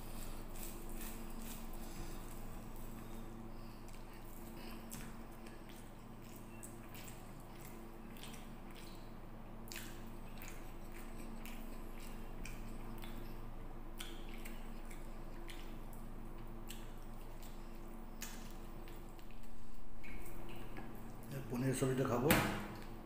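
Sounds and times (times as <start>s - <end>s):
chewing and lip smacks: 0.0s - 21.5s
low steady hum: 0.0s - 23.0s.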